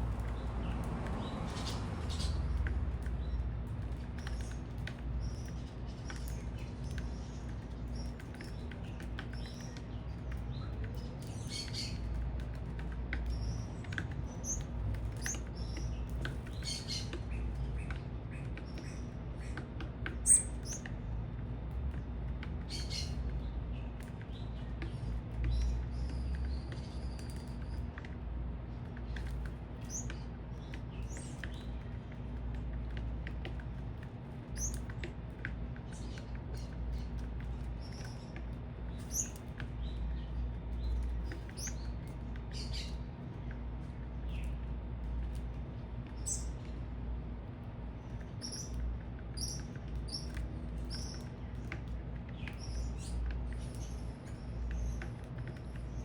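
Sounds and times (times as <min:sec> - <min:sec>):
low steady rumble: 0:00.0 - 0:56.0
small birds chirping: 0:00.0 - 0:56.0.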